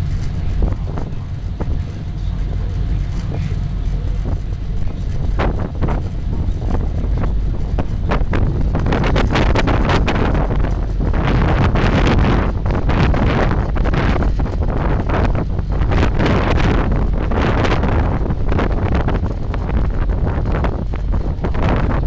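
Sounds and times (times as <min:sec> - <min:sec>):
boat engine rumble: 0:00.0 - 0:22.0
wind buffeting microphone: 0:00.0 - 0:22.0.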